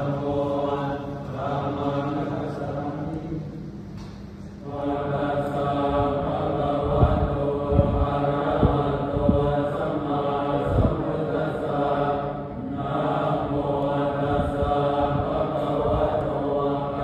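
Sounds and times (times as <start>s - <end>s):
monks chanting in unison: 0.0s - 3.6s, 4.6s - 17.0s.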